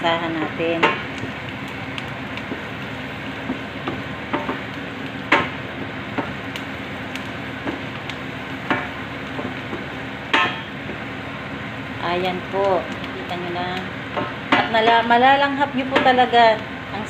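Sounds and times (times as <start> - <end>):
garlic and onion sizzling: 0.0 - 17.0.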